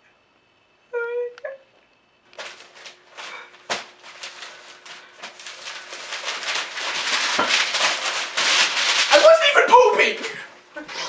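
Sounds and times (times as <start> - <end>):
crackly rustling: 1.4 - 11.0.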